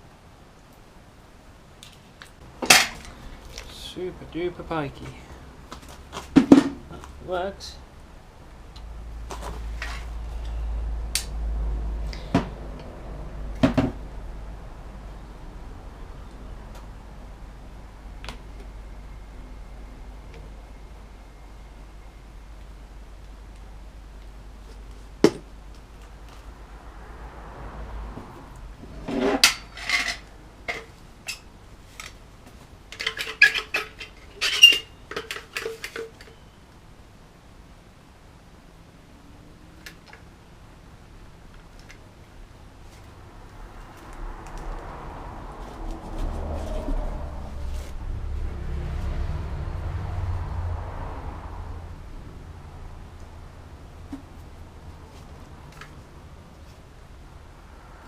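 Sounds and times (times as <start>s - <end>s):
low steady rumble: 0.0s - 33.0s, 36.4s - 58.0s.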